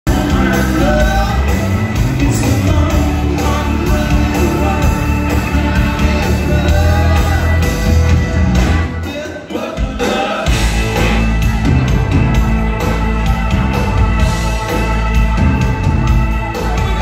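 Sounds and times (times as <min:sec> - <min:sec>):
man singing: 0:00.0 - 0:11.6, 0:12.9 - 0:17.0
live rock band playing: 0:00.0 - 0:17.0.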